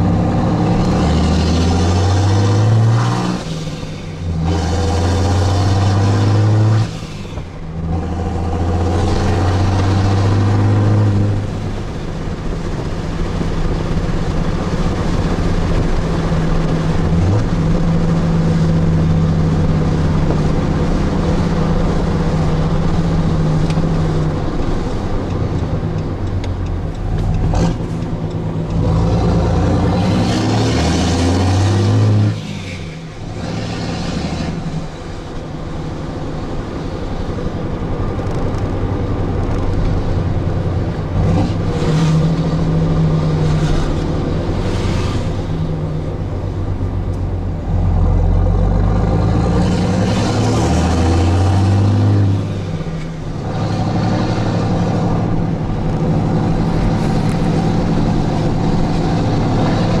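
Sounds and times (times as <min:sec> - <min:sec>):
diesel truck engine from inside cab: 0:00.0 - 1:00.0.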